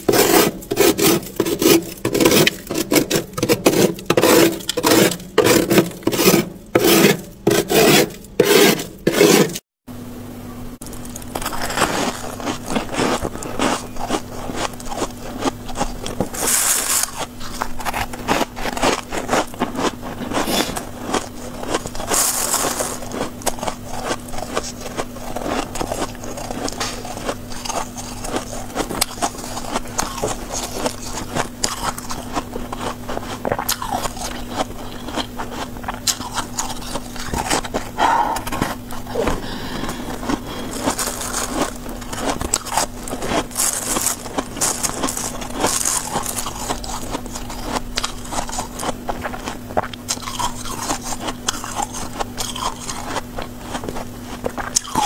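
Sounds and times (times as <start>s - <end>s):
crunching of frost being chewed: 0.0s - 9.7s, 10.8s - 55.0s
frost being scraped: 0.0s - 9.7s, 11.3s - 49.6s
steady low hum: 0.0s - 55.0s.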